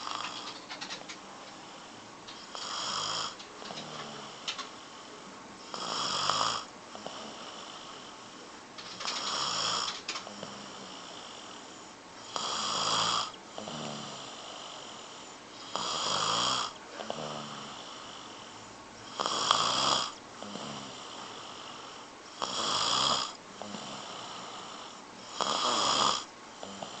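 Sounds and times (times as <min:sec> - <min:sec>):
loud snoring: 0:00.0 - 0:00.6, 0:02.4 - 0:04.6, 0:05.6 - 0:08.1, 0:08.9 - 0:18.4, 0:19.0 - 0:27.0
quiet breathing: 0:00.0 - 0:27.0.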